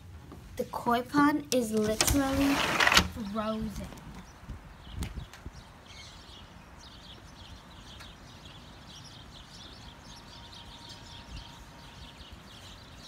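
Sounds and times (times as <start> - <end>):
small birds chirping: 0.7 - 13.0.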